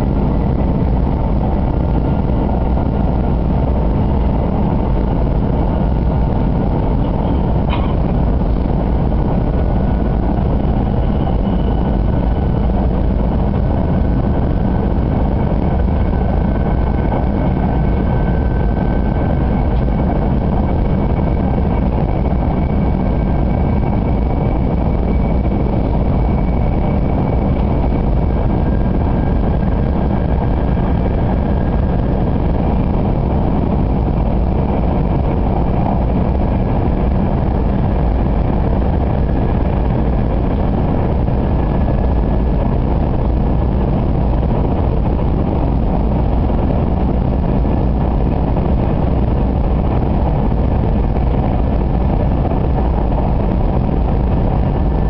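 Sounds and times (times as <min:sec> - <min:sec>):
faint high whines: 0:00.0 - 0:55.0
train cabin rumble: 0:00.0 - 0:55.0.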